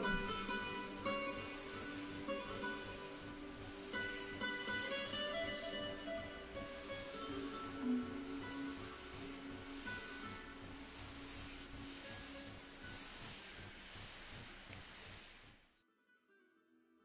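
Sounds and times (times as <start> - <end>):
pencil rubbing on paper: 0.0 - 15.8.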